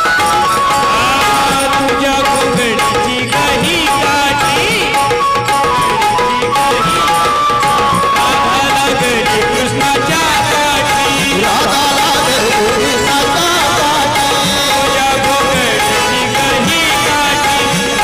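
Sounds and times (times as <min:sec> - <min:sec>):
hand drums beat: 0:00.0 - 0:18.0
harmonium: 0:00.0 - 0:18.0
man singing folk song: 0:00.6 - 0:06.5, 0:07.6 - 0:18.0.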